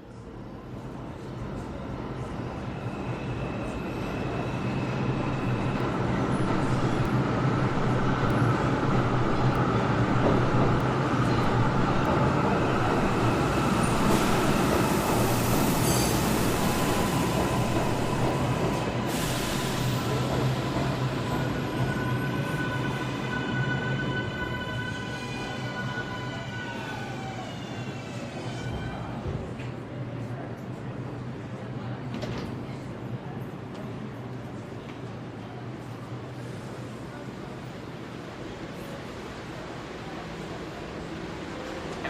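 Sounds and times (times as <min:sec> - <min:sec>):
metro train running on track: 0:00.0 - 0:42.0.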